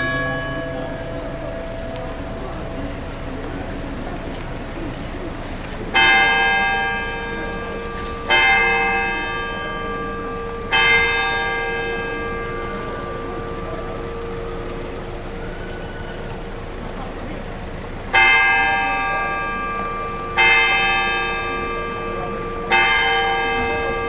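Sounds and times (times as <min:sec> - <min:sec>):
large bell ringing: 0:00.0 - 0:24.0.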